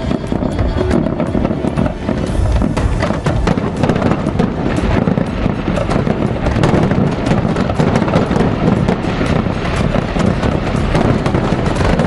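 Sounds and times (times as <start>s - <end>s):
fireworks crackling and popping: 0.0s - 12.0s
low rumble: 0.0s - 12.0s.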